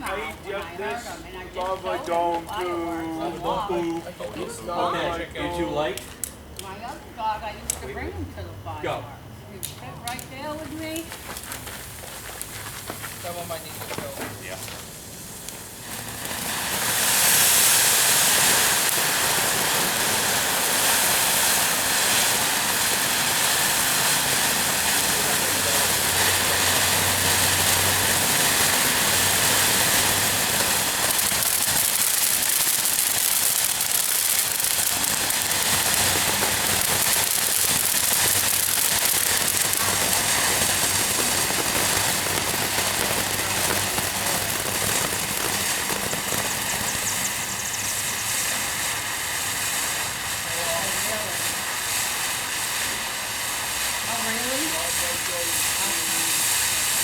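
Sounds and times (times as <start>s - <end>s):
firework fountain hissing: 0.0s - 57.0s.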